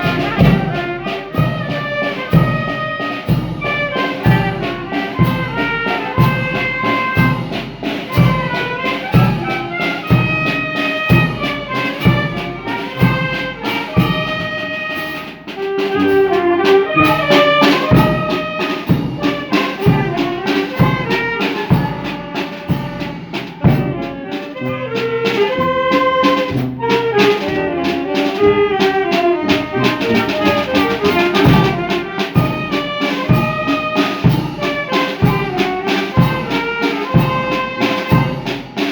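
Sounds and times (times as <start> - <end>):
brass melody: 0.0 - 38.9
steady drum beat: 0.0 - 38.9.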